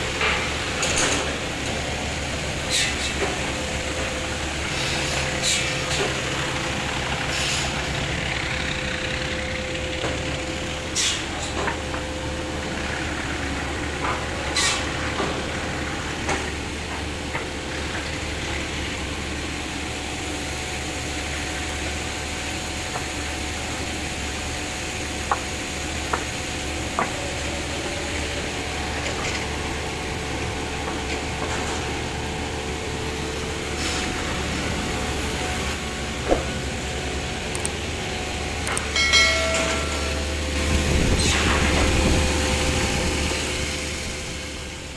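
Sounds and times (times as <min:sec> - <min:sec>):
sawmill machinery humming: 0:00.0 - 0:44.9.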